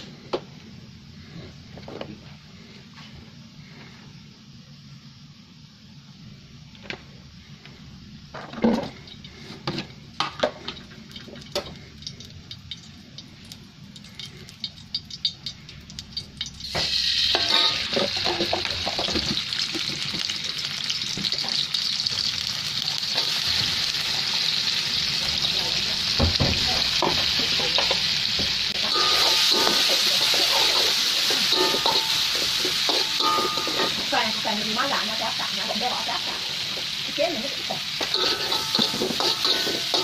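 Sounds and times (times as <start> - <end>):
oil sizzling: 5.6 - 40.0.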